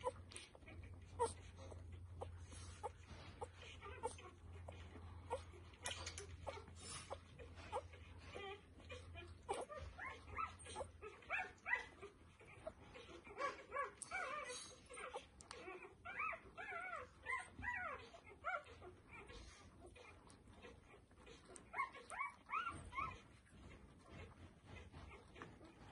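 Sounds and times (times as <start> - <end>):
puppy squeaking and whimpering: 0.0 - 25.9.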